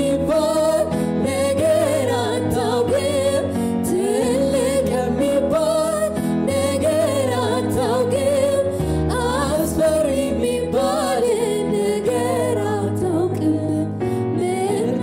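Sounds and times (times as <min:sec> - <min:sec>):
man and woman singing: 0:00.0 - 0:15.0.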